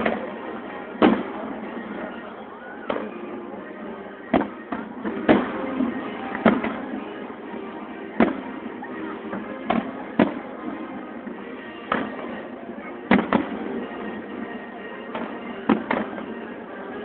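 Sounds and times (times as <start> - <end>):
fireworks bursting: 0.0 - 3.4, 4.2 - 17.0.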